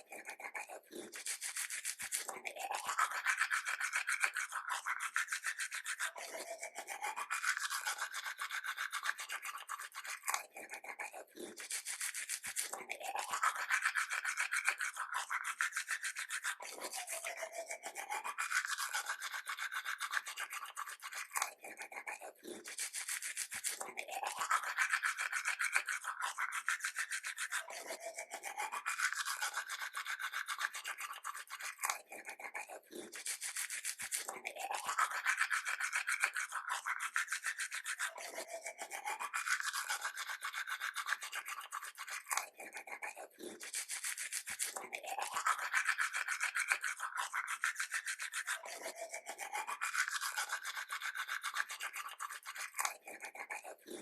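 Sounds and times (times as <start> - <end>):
teeth being brushed: 0.0 - 54.0.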